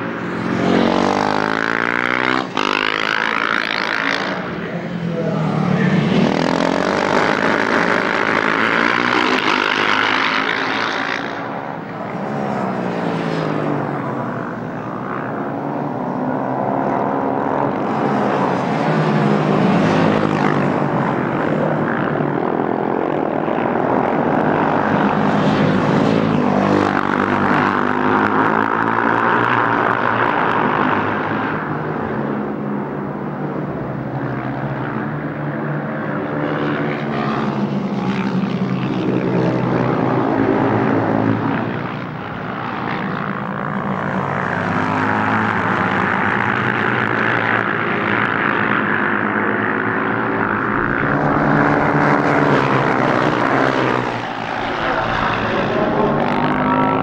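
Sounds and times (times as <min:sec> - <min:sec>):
motorcycle engines droning: 0:00.0 - 0:57.0.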